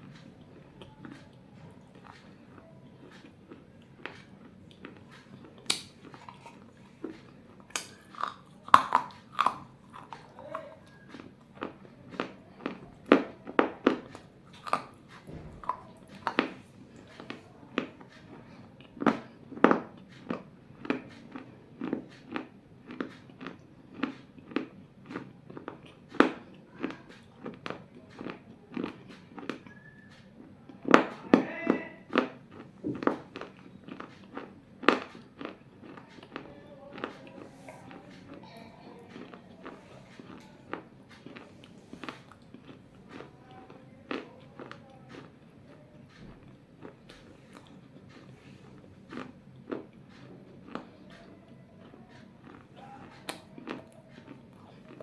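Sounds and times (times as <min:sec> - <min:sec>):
teeth crunching baked clay: 0:00.0 - 0:55.0.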